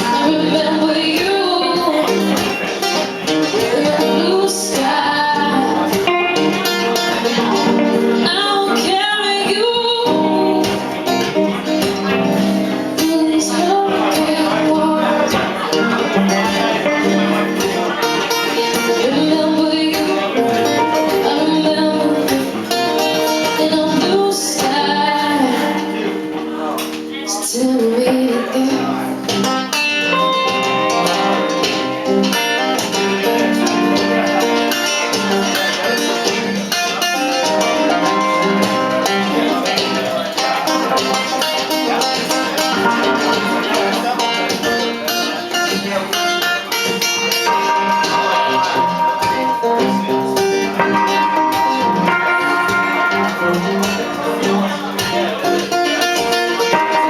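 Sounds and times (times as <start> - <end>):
live guitar instrumental: 0.0 - 57.0.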